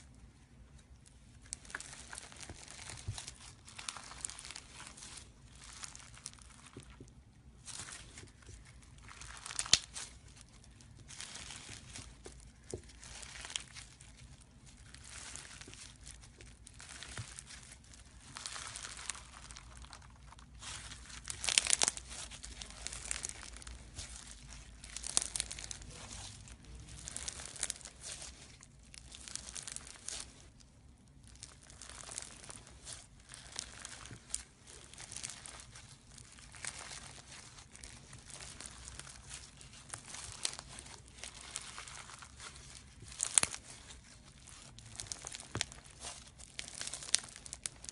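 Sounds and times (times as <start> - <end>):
slime crackling and popping: 0.0 - 47.9.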